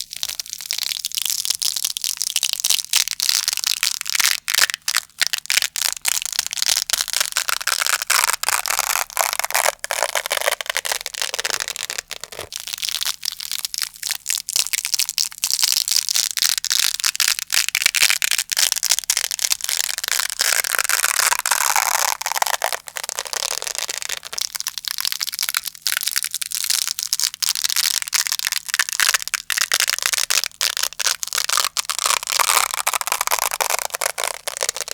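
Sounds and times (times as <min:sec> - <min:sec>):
velcro being ripped: 0:00.0 - 0:34.9.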